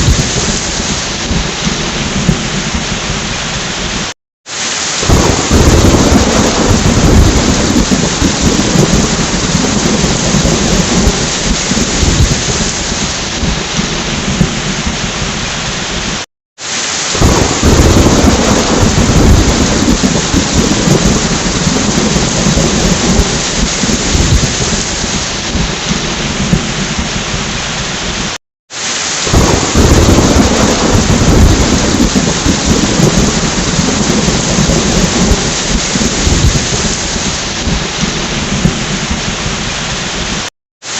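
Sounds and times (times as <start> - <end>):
thunder rumbling: 0.0 - 4.1, 5.0 - 16.2, 17.1 - 28.4, 29.2 - 40.5
heavy rain: 0.0 - 40.9.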